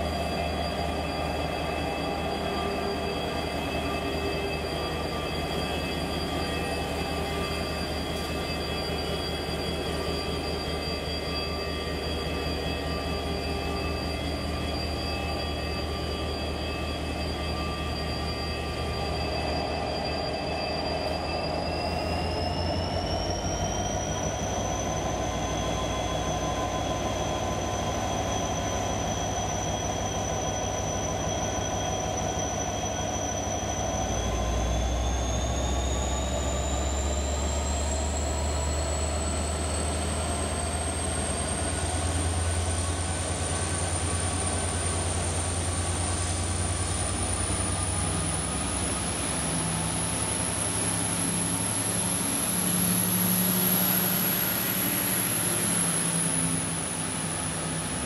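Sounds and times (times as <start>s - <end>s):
diesel locomotive engine rumbling: 0.0s - 58.0s
locomotive whine rising in pitch: 0.0s - 58.0s.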